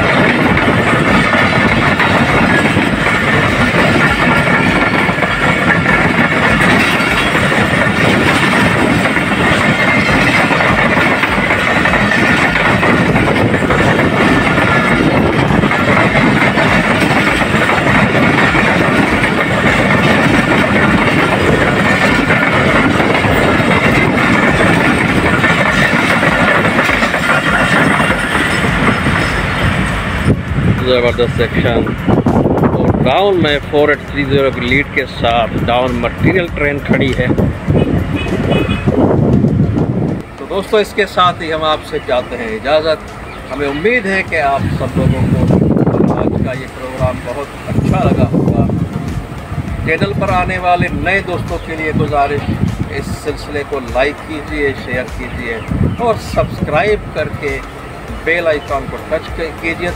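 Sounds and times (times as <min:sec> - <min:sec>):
clickety-clack of rail joints: 0:00.0 - 0:59.9
train wheels rumbling on rails: 0:00.0 - 0:59.9.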